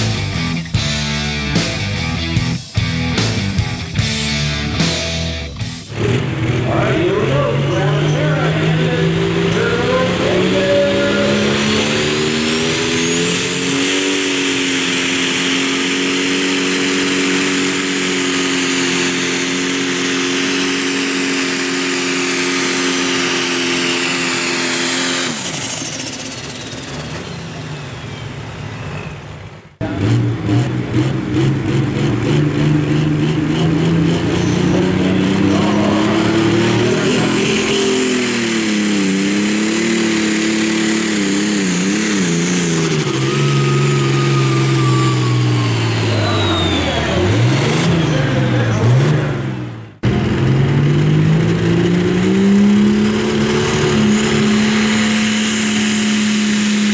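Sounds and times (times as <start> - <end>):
diesel tractor engine high pitch: 0.0 - 56.9
diesel tractor engine pulsing: 0.0 - 56.9.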